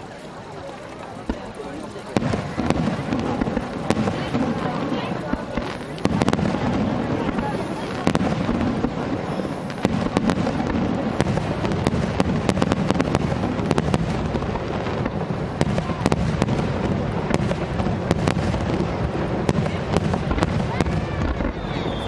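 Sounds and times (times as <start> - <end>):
fireworks bangs and crackles: 0.0 - 22.0
fireworks bursting: 0.0 - 22.0.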